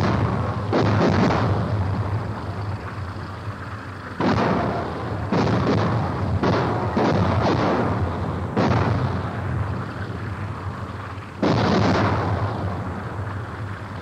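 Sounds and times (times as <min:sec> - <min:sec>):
artillery shell explosions: 0:00.0 - 0:14.0
low steady hum: 0:00.0 - 0:14.0.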